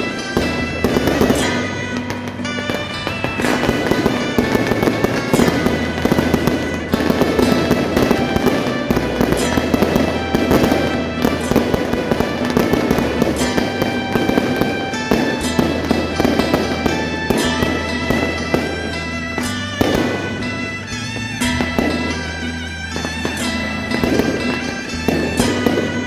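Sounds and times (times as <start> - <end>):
firecracker bursts crackling: 0.0 - 26.0.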